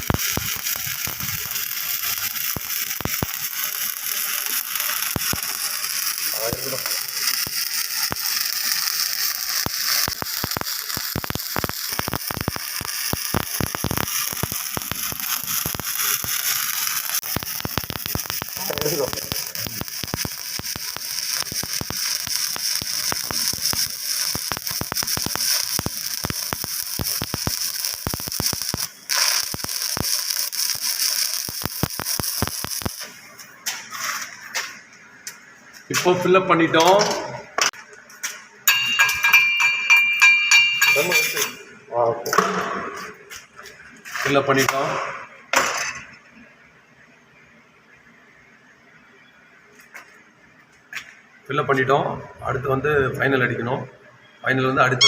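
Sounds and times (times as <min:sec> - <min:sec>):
welding arc crackling and sizzling: 0:00.0 - 0:46.4.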